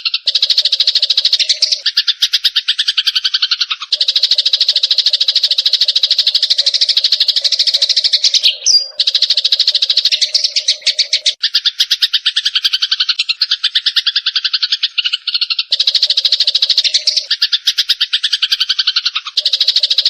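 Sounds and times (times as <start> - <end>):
songbirds trilling: 0.0 - 20.0.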